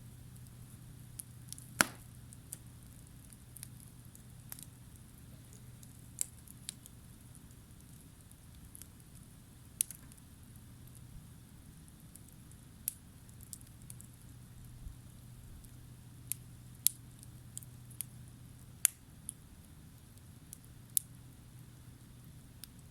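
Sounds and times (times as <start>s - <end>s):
low steady hum: 0.0s - 22.9s
campfire crackling and popping: 0.3s - 22.9s.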